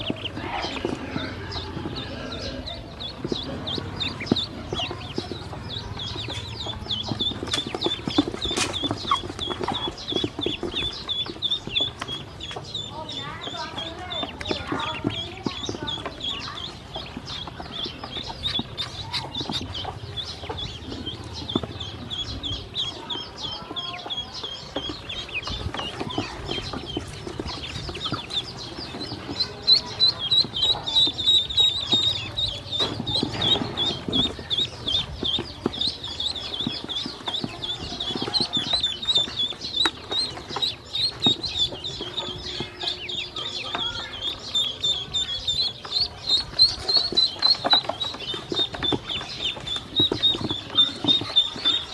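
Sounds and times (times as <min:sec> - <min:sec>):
ducklings peeping: 0:00.0 - 0:51.9.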